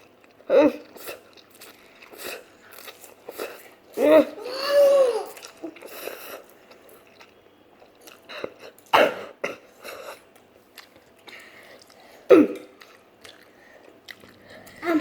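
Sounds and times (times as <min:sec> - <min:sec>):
chewing noodles: 0:00.0 - 0:04.1, 0:05.1 - 0:08.9, 0:09.8 - 0:15.0.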